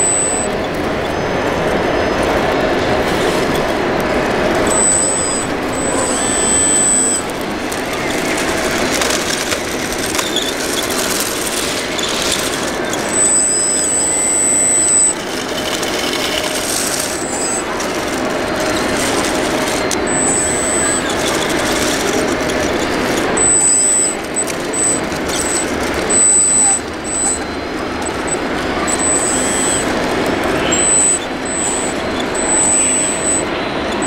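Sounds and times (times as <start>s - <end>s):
crowd murmur: 0.0s - 34.0s
high thin motor whine: 0.0s - 34.0s.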